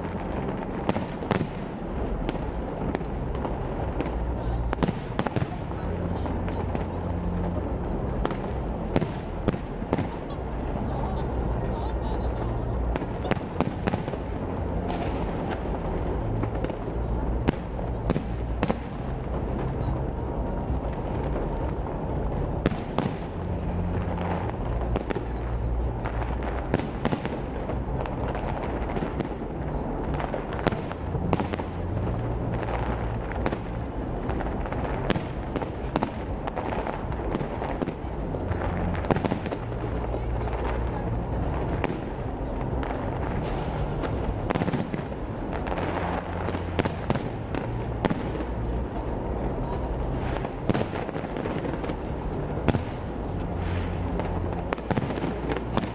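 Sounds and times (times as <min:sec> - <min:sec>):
fireworks bangs and crackles: 0:00.0 - 0:55.9
low rumble: 0:00.0 - 0:55.9.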